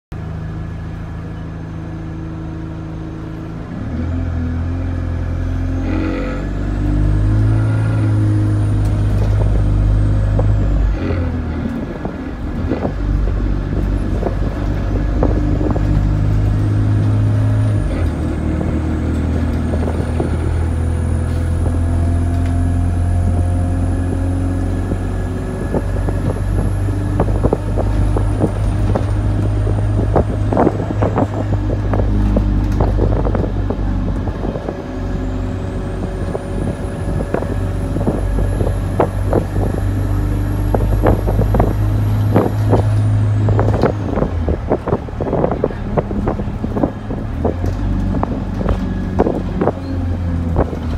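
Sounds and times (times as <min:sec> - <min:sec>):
bus diesel engine drone: 0:00.1 - 0:50.9
bus interior rattling: 0:00.2 - 0:50.9.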